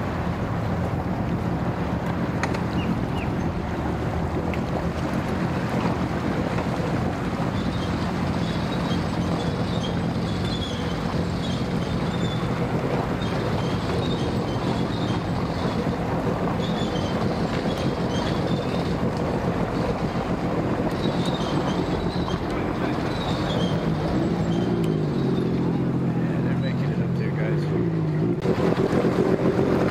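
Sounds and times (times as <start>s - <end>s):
watercraft engines idling: 0.0s - 29.9s.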